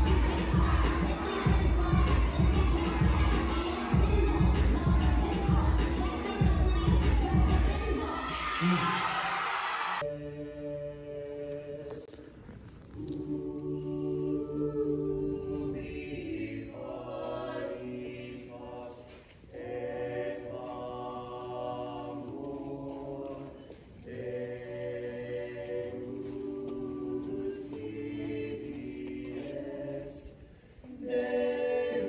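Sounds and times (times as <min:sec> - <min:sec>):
choir singing held chords: 0:00.0 - 0:12.4, 0:13.0 - 0:32.0.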